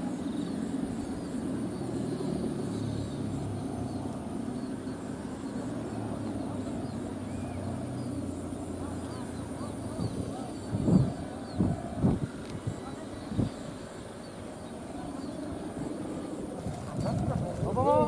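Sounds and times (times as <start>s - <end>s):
kite hummer droning: 0.0s - 18.0s.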